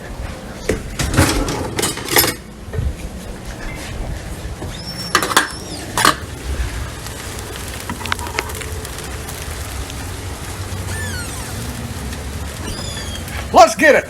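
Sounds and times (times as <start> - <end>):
sleet and rain pattering: 0.0 - 14.0.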